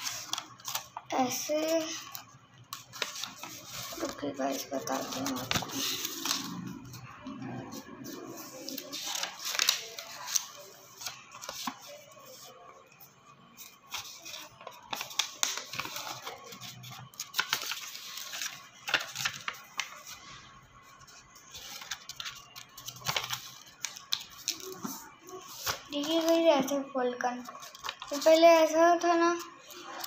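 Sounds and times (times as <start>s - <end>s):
paper rustling and crinkling: 0.0s - 30.0s.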